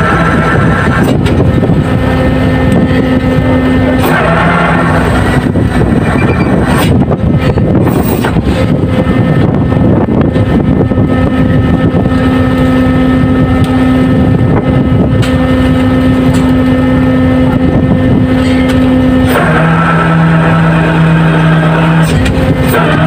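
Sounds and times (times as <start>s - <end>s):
boat engines and winch running: 0.0s - 23.0s
steady hum: 0.0s - 23.0s
wind on microphone: 0.0s - 23.0s.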